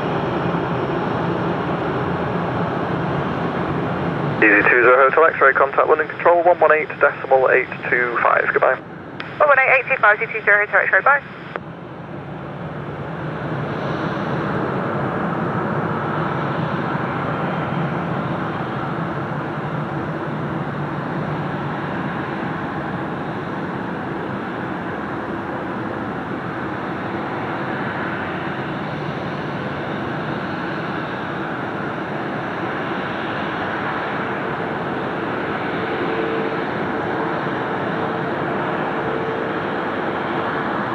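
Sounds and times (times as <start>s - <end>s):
faint jet whine: 0.0s - 40.9s
jet engines rumbling: 0.0s - 40.9s.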